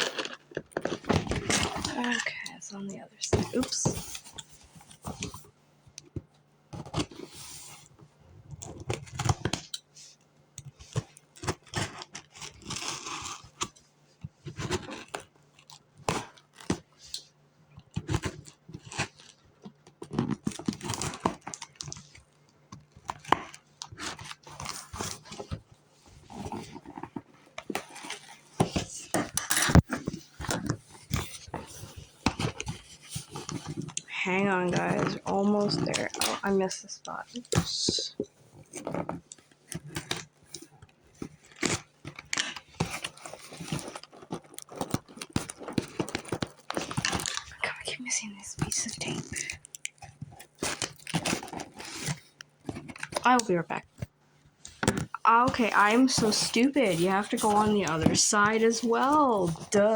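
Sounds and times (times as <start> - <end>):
packing tape scraping and tearing: 0.0 - 2.3, 10.8 - 13.8, 14.4 - 17.3, 18.0 - 59.9.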